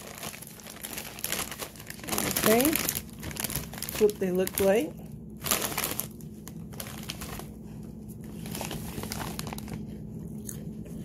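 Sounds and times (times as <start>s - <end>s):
chip bag crinkling: 0.0s - 10.0s.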